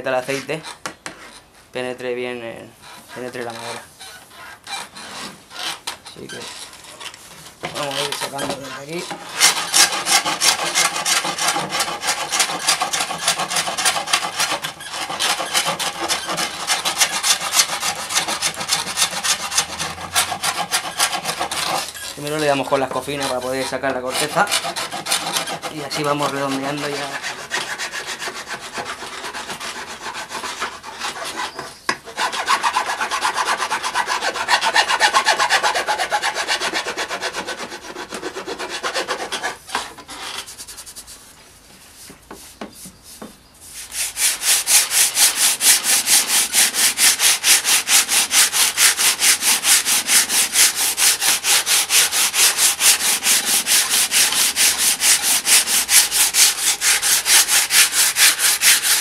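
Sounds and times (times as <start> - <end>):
wood rasp scraping cane: 0.0 - 1.6, 2.7 - 41.2, 42.3 - 59.0.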